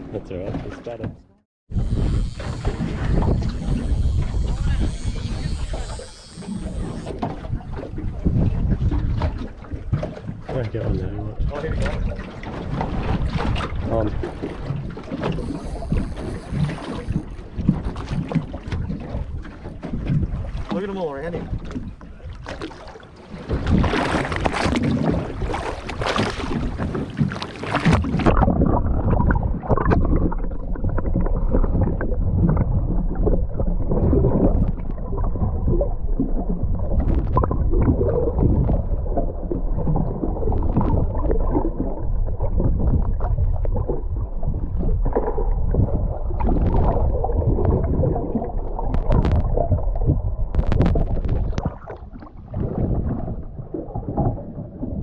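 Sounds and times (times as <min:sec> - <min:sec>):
muffled underwater sloshing and gurgling: 0:00.0 - 0:55.0
sea water splashing and rushing: 0:00.0 - 0:55.0.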